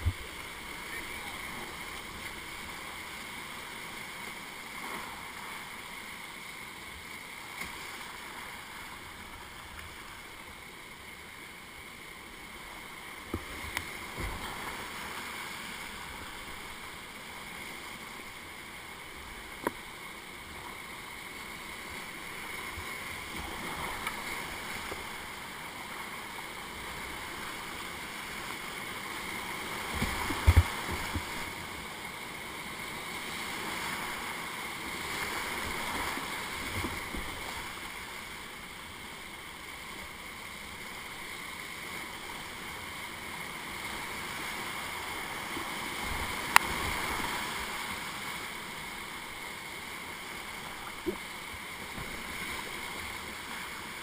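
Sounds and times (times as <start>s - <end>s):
whitewater rushing over rapids: 0.0s - 54.0s.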